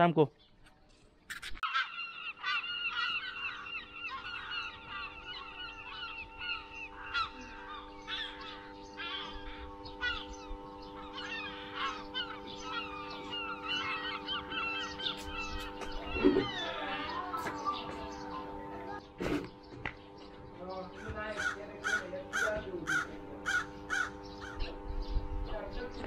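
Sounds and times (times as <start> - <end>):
birds honking: 1.6 - 26.0
steady drone of held tones: 1.8 - 26.0.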